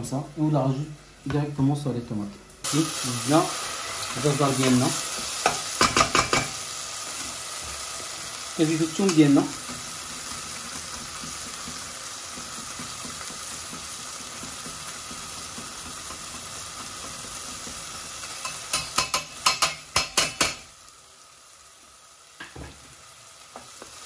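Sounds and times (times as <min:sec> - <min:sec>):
vegetables sizzling in a pot: 0:00.0 - 0:24.0.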